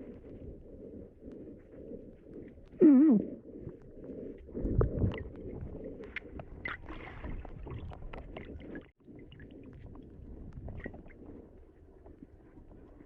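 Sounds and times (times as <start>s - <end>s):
muffled water movement: 0.0s - 13.0s.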